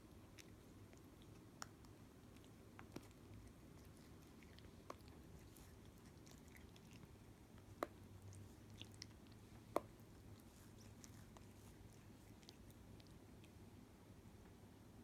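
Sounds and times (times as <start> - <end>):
cat licking paw: 0.0 - 13.8
low steady hum: 0.0 - 15.0.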